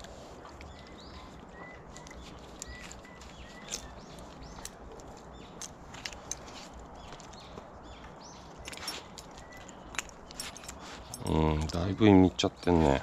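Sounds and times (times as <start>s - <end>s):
faint outdoor background: 0.0s - 13.0s
small birds chirping: 0.0s - 13.0s.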